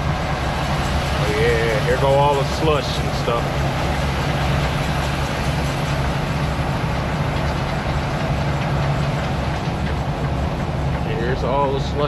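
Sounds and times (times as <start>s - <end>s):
chained tires rolling through slush: 0.0s - 12.0s
truck diesel engine running: 0.0s - 12.0s.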